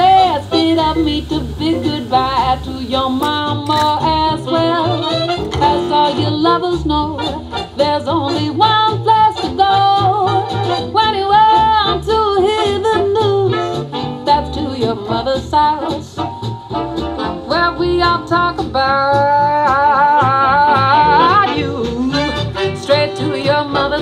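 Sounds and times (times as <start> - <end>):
person singing: 0.0 - 16.0, 17.5 - 24.0
swing instrumental backing: 0.0 - 24.0.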